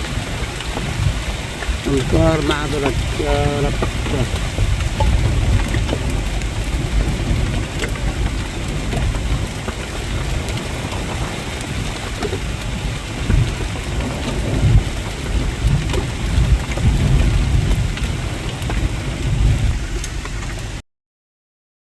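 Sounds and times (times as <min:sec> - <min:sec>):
deep low rumble: 0:00.0 - 0:20.8
heavy rain falling: 0:00.0 - 0:20.8.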